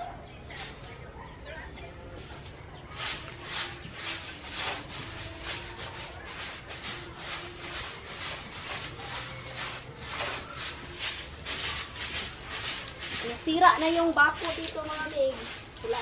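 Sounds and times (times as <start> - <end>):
stick broom sweeping stony ground: 0.4 - 1.0, 2.1 - 16.0.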